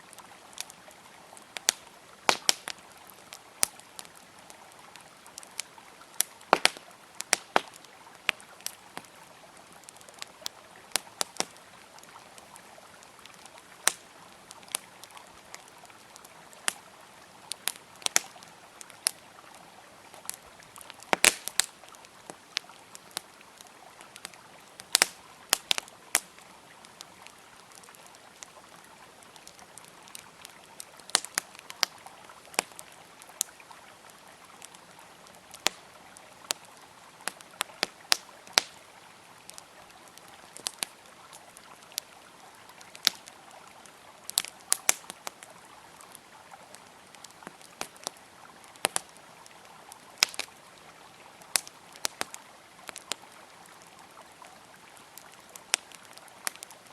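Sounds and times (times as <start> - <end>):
campfire crackling and popping: 0.0 - 56.9
river flowing: 0.0 - 56.9.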